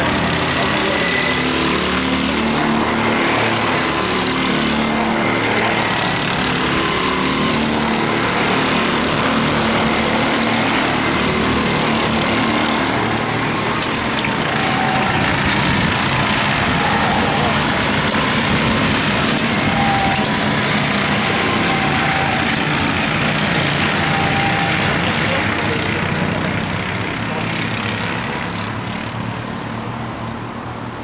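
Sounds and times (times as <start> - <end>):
go-kart engines racing: 0.0 - 31.0.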